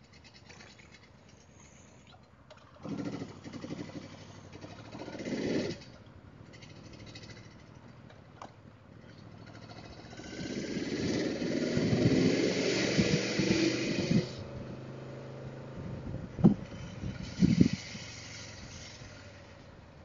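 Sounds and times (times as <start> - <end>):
wind and road noise: 0.0 - 20.0
motorcycle engine accelerating: 2.8 - 20.0.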